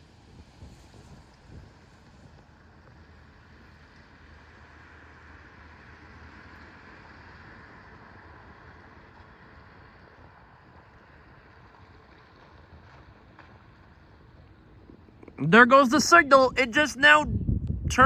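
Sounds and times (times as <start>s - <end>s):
faint outdoor rumble and hiss: 0.0s - 18.0s.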